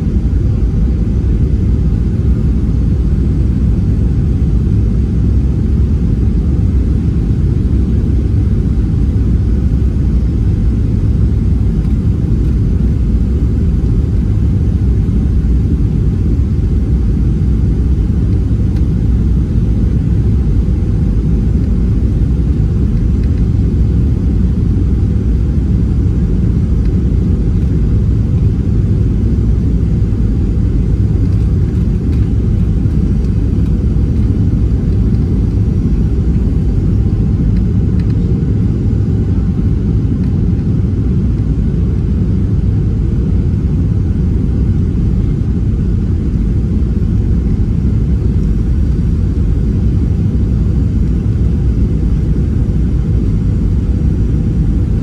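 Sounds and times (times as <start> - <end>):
aircraft engines rumbling: 0.0 - 55.0.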